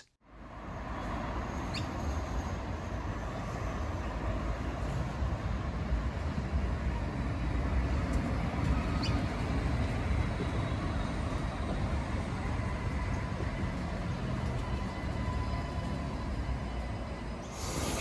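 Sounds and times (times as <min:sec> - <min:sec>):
tram rumbling on track: 0:00.3 - 0:18.0.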